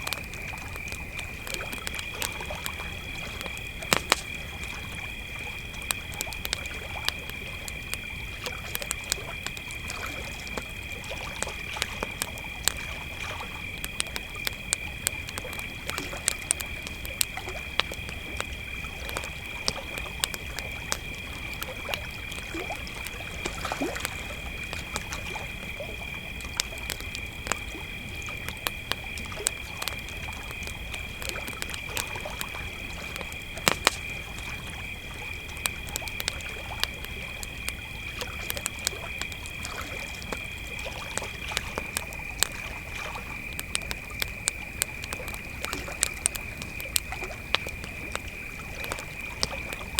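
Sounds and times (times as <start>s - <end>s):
campfire crackling: 0.0s - 49.9s
crickets trilling: 0.0s - 49.9s.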